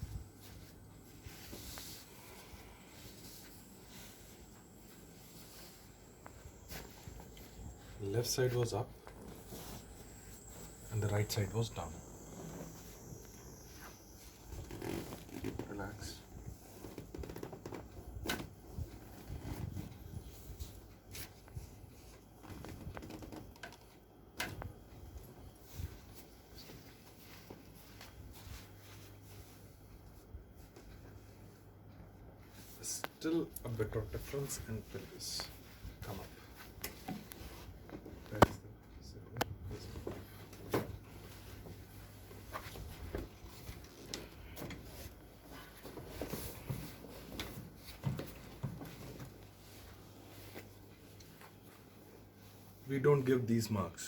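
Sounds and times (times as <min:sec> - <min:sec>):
faint handling noises: 0:00.0 - 0:53.4
faint steady hum: 0:00.0 - 0:54.0.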